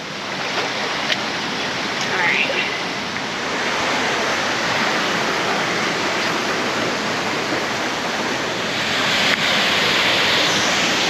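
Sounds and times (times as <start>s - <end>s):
fast-flowing river water rushing: 0.0s - 11.0s.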